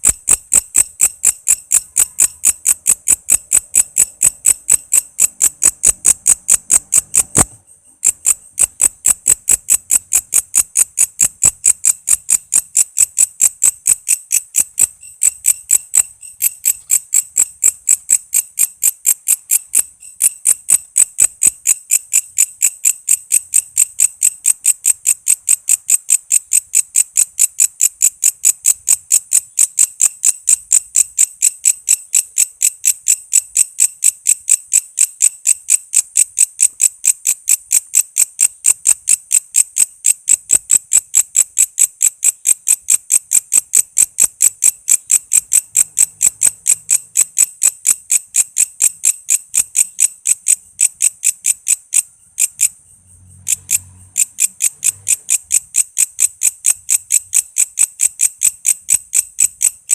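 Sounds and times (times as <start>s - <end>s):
bush cricket chirping: 0.0s - 59.9s.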